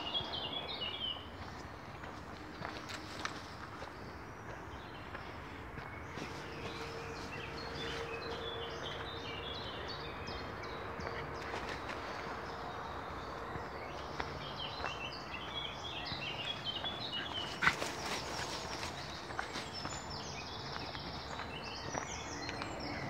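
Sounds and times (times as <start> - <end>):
birdsong: 0.0 - 23.0
footsteps on dirt path: 0.1 - 23.0.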